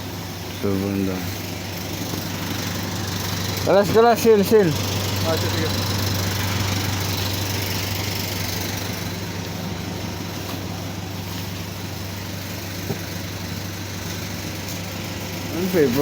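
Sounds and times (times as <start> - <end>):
low mechanical motor hum: 0.0 - 16.0.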